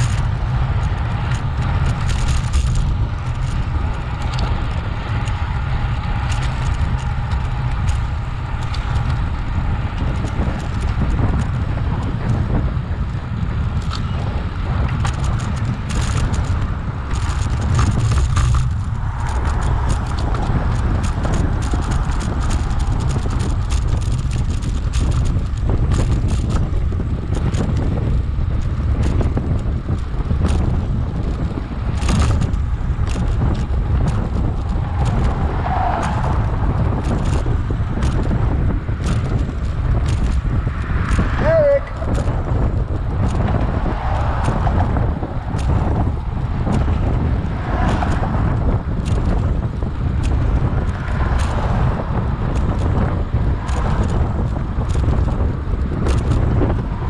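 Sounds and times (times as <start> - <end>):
bicycle clicks and rattles: 0.0 - 57.0
wind buffeting microphone: 0.0 - 57.0.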